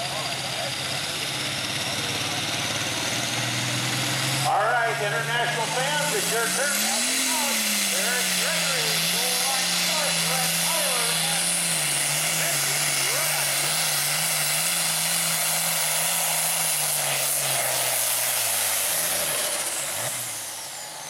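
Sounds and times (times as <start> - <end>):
tractor diesel engine running flat out: 0.0 - 21.0.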